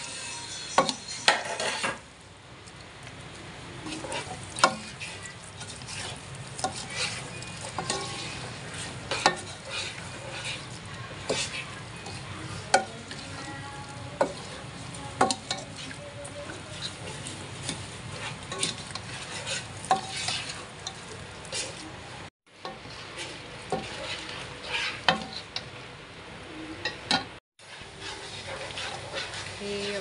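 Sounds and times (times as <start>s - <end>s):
metal utensil clinking and scraping pan: 0.0s - 2.0s, 3.8s - 21.9s, 22.6s - 25.7s, 26.8s - 30.0s
food sizzling in a pan: 0.0s - 27.0s, 27.6s - 30.0s.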